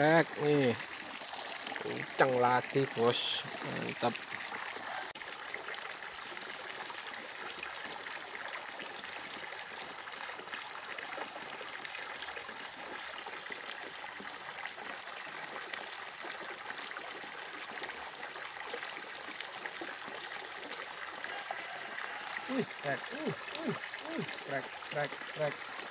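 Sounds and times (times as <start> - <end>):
mountain stream running: 0.0 - 25.9.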